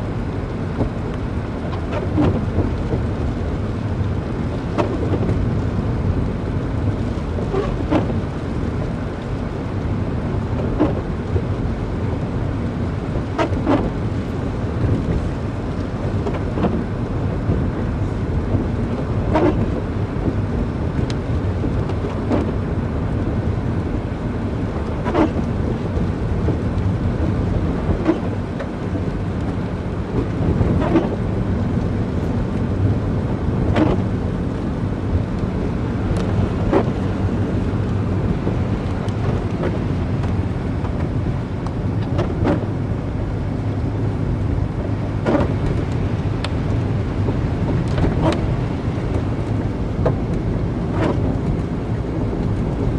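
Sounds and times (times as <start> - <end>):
car engine and road rumble: 0.0 - 52.9.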